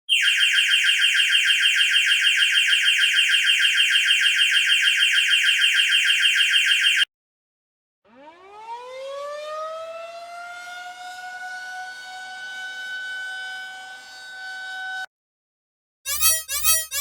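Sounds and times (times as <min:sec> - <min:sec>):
siren wailing: 0:00.1 - 0:07.1, 0:08.1 - 0:15.0.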